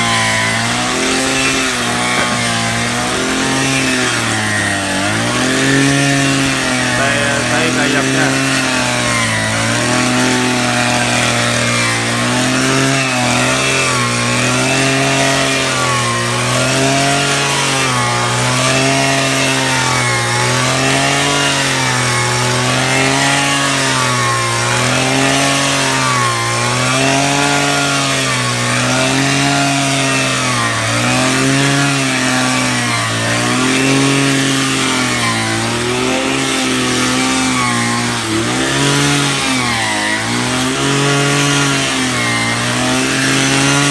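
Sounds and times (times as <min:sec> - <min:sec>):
power drill motor under load: 0:00.0 - 0:43.9.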